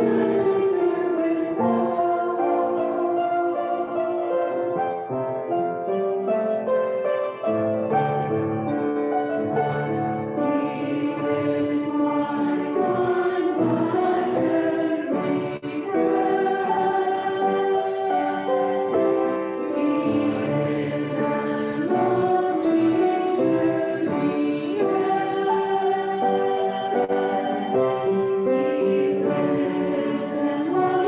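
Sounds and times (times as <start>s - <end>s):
choir singing a hymn: 0.0s - 31.0s
keyboard accompaniment: 0.0s - 31.0s.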